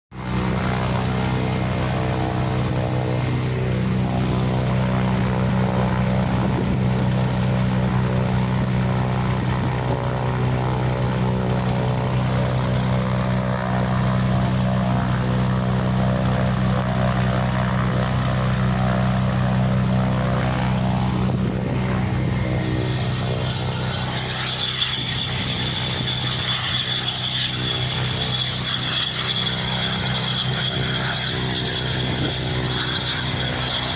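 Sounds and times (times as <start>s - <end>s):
jet engine whine: 0.1s - 33.9s
propeller aircraft engine droning: 0.1s - 33.9s.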